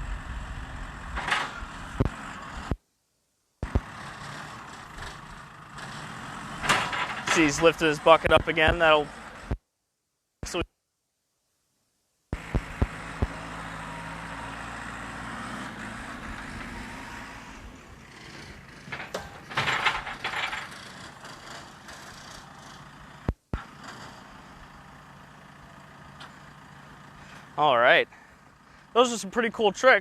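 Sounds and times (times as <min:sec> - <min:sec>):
backhoe engine running: 0:00.0 - 0:02.8, 0:03.6 - 0:09.6, 0:12.4 - 0:29.8.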